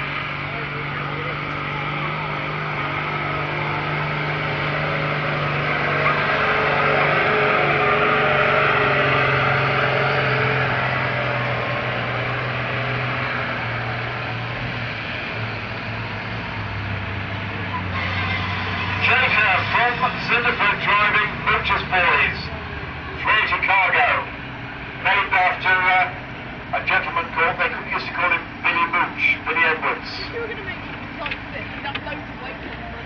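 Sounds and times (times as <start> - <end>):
tractor engine under full load: 0.0 - 33.0.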